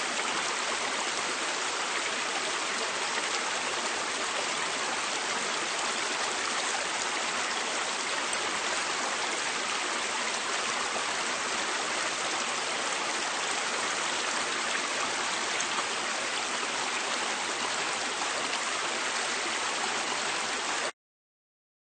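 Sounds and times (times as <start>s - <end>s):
river water flowing: 0.0s - 20.9s.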